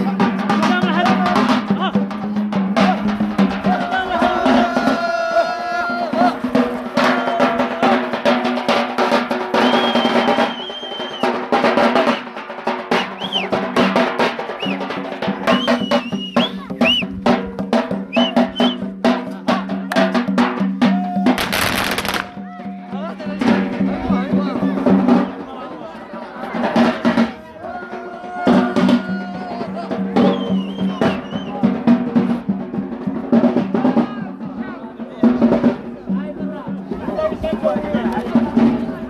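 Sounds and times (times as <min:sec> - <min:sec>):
drums beating fast rhythm: 0:00.0 - 0:39.0.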